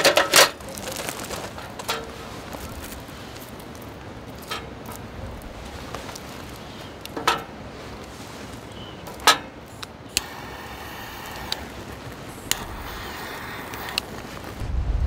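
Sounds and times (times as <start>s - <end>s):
soft even hiss: 1.9s - 15.0s.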